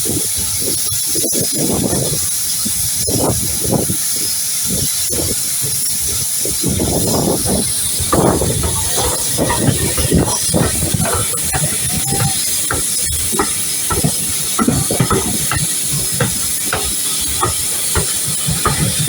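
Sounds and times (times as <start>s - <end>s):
steam locomotive hissing: 1.6s - 19.0s.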